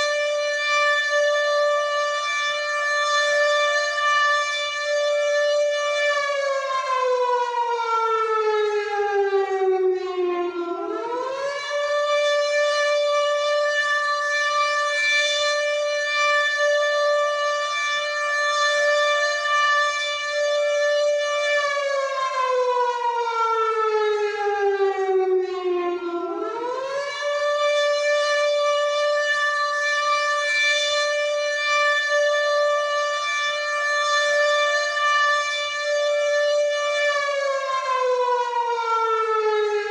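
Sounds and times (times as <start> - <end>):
air raid siren wailing: 0.0 - 39.9.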